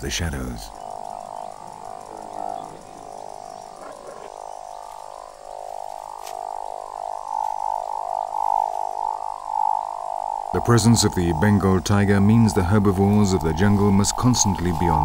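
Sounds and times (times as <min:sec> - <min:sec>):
chorus of frogs calling: 0:00.0 - 0:15.0.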